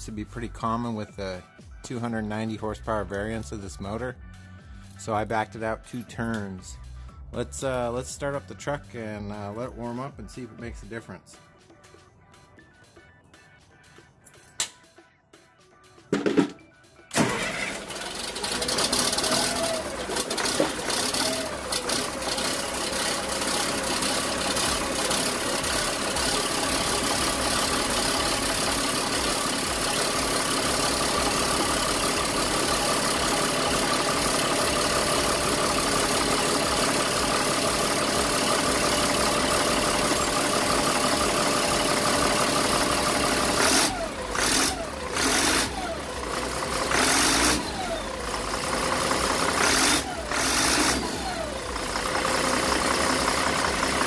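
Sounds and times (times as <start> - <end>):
diesel engine cranking and idling: 2.2 - 10.0, 17.0 - 54.0.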